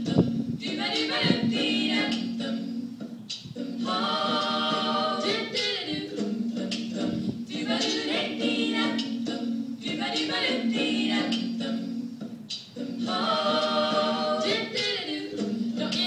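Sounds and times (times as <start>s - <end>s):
looped sung bass line: 0.0s - 16.0s.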